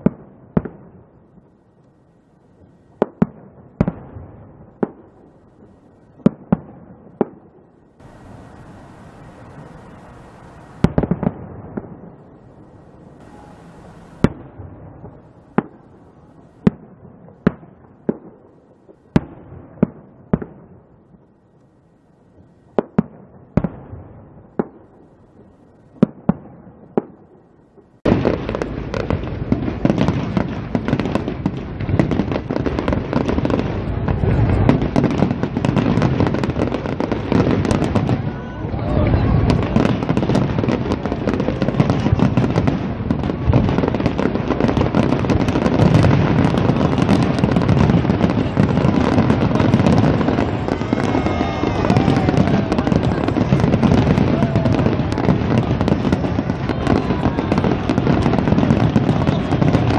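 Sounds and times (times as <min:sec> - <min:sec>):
firework shells bursting with bangs: 0:00.0 - 0:21.4, 0:22.4 - 0:59.9
firework crackling: 0:00.0 - 0:59.9.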